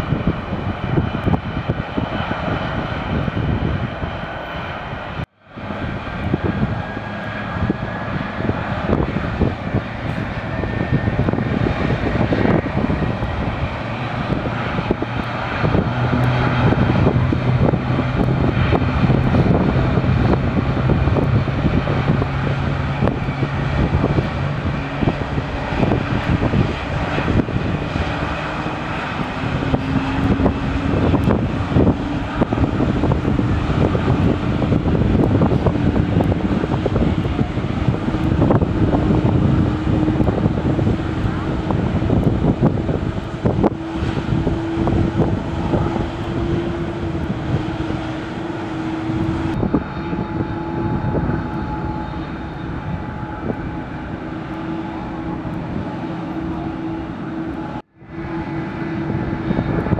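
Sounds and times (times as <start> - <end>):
airliner engines running: 0.0 - 59.9.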